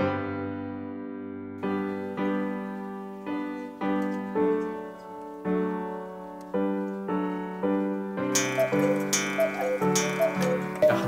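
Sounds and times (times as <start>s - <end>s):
slow piano notes: 0.0s - 11.0s.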